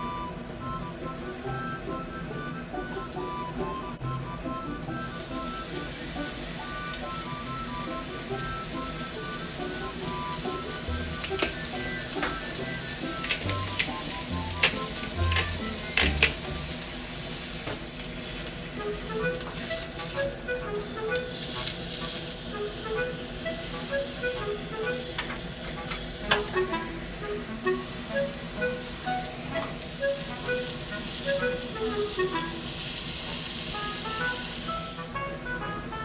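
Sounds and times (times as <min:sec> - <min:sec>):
meat sizzling in frying pan: 0:04.4 - 0:35.2.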